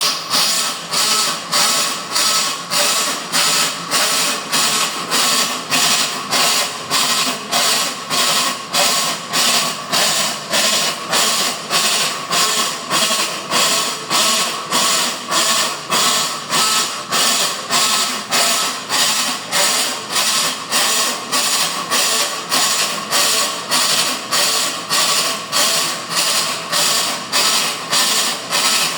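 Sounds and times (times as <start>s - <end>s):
washing machine hum: 0.0s - 28.9s.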